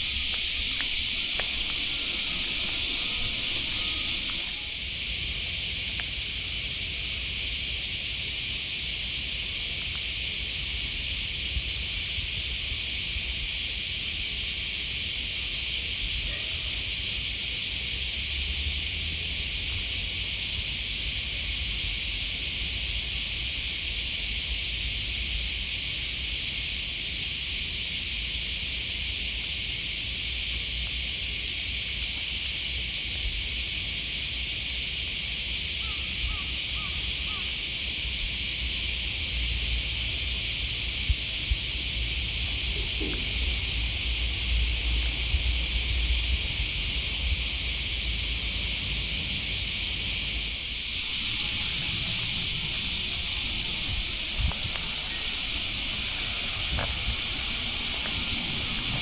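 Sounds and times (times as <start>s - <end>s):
high-pitched hiss: 0.0s - 59.0s.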